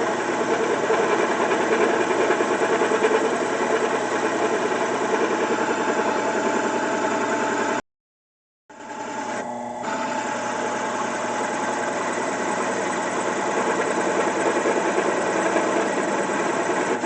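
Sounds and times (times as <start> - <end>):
drill press motor humming: 0.0 - 7.8, 8.7 - 17.0.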